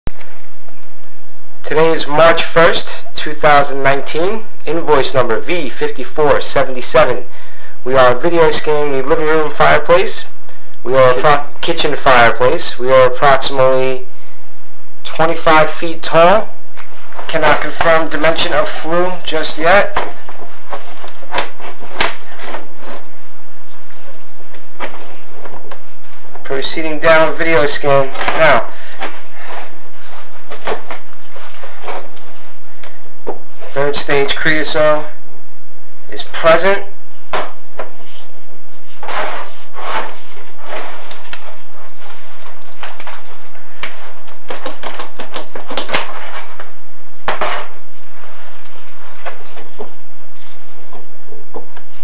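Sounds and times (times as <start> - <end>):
faint steady hum: 0.1 - 52.0.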